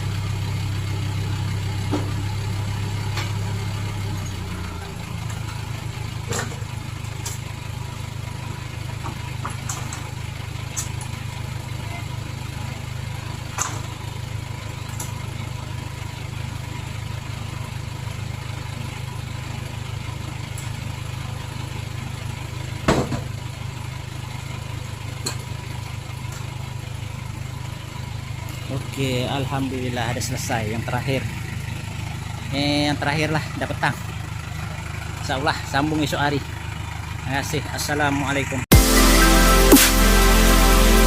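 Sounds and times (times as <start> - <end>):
lorry engine idling: 0.0 - 41.0.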